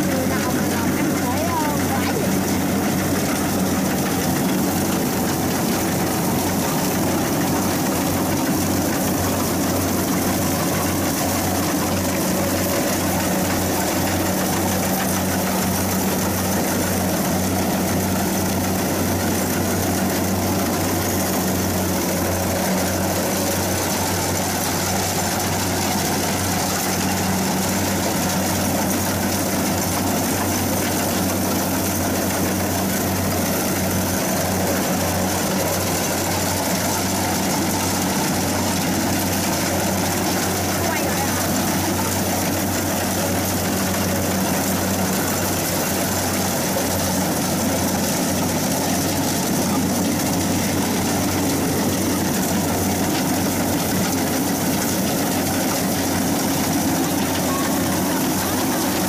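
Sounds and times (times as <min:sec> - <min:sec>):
diesel engine hum: 0:00.0 - 0:59.0
threshing machinery rattle and whir: 0:00.0 - 0:59.0.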